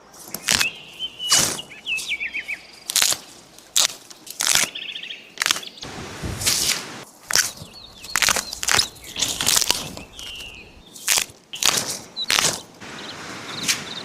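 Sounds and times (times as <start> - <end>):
loud sharp crunching: 0.0 - 13.9
small birds chirping and trilling: 0.1 - 5.9, 7.4 - 14.0.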